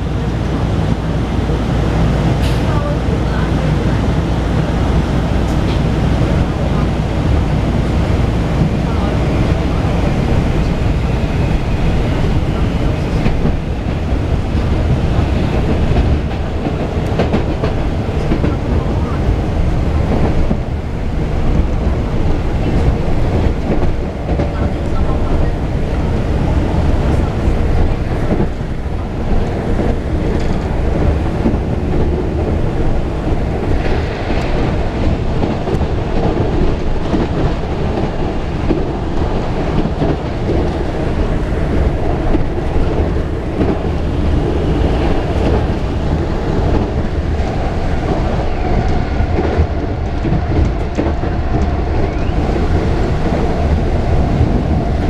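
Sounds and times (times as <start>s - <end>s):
rail car wheels rumbling: 0.0s - 55.0s.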